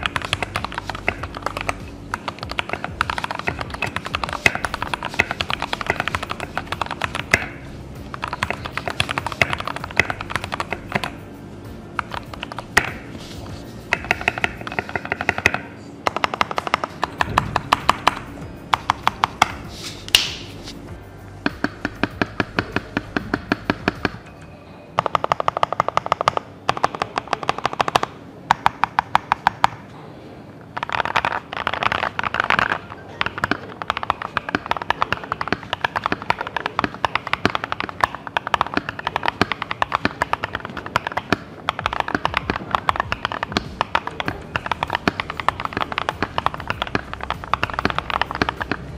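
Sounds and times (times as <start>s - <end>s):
mechanical keyboard typing: 0.0s - 11.2s, 12.0s - 20.4s, 21.5s - 24.3s, 25.0s - 29.8s, 30.8s - 48.9s
background music: 0.0s - 27.1s, 31.2s - 48.9s.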